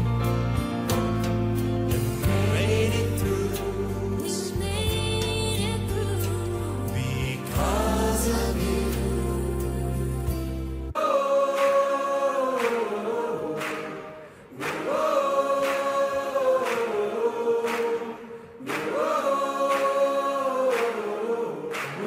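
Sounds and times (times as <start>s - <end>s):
choir singing: 2.2s - 22.0s.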